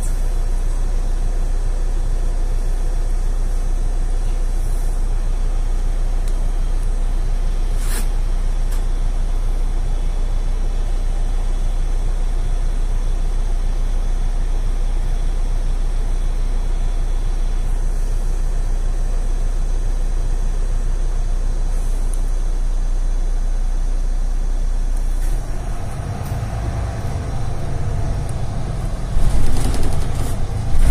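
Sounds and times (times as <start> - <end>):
diesel bus engine idling: 0.0 - 30.9.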